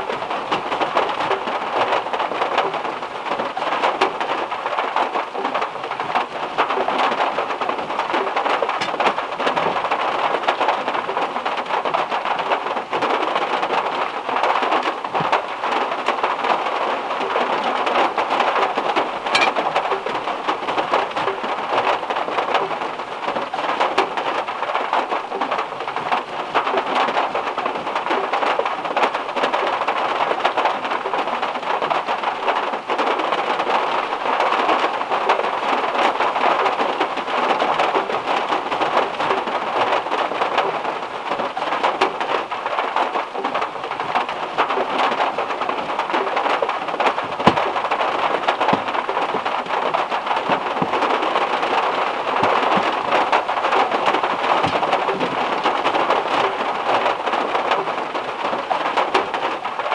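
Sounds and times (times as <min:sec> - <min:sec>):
heavy rain on car metal roof: 0:00.0 - 0:59.9.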